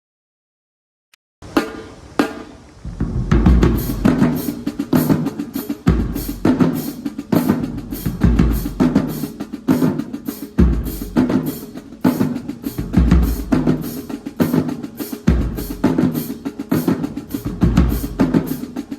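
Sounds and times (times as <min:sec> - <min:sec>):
rapid snare strokes and rimshots: 0:01.5 - 0:02.7, 0:03.3 - 0:18.9.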